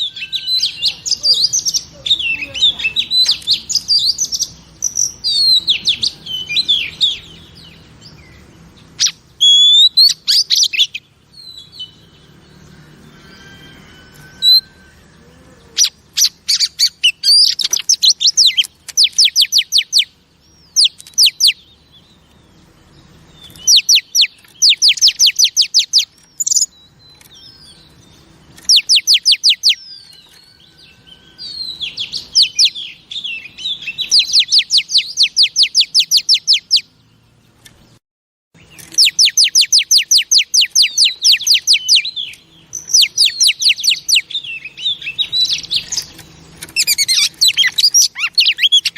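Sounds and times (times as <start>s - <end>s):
magpie-robin calling: 0.0s - 22.2s, 23.4s - 36.9s, 38.6s - 48.9s.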